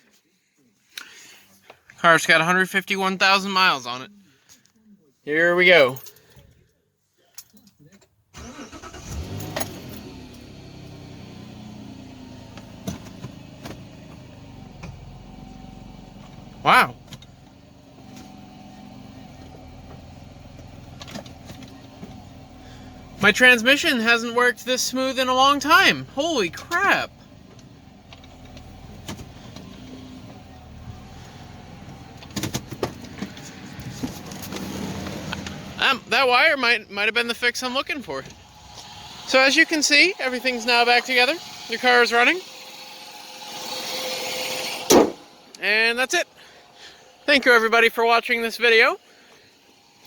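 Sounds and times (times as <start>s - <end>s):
car engine idling: 8.4s - 50.0s.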